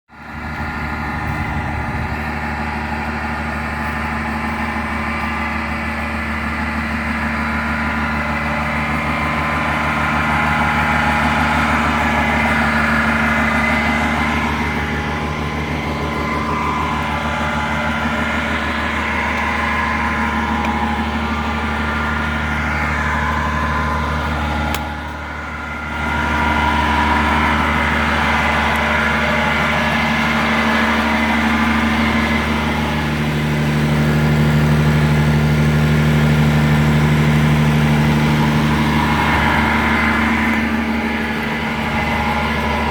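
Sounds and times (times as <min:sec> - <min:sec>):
gas engine running steadily: 0:00.1 - 0:42.9.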